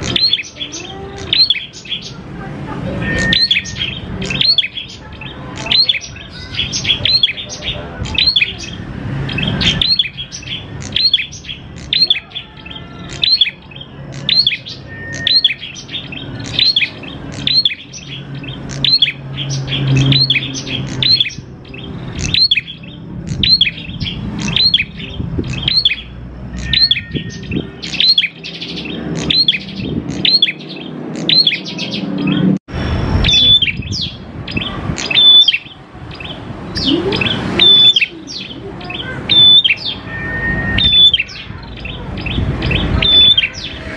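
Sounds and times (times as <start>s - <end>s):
bird singing sharp repeated notes: 0.0s - 43.9s.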